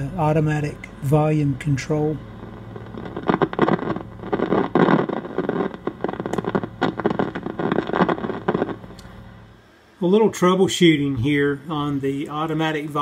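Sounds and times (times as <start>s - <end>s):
radio distorted crackling: 0.0s - 13.0s
steady low hum: 0.0s - 13.0s.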